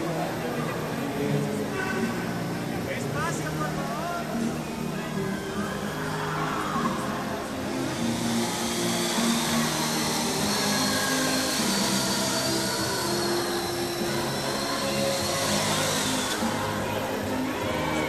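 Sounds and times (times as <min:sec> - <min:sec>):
quadcopter motors whirring: 0:03.3 - 0:18.0.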